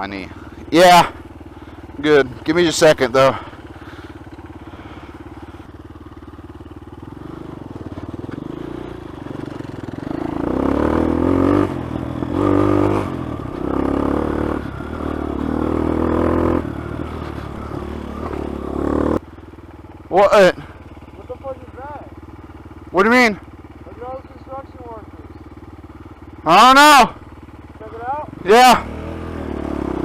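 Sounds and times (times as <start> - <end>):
dirt bike engine revving: 0.0 - 19.3, 20.0 - 30.0.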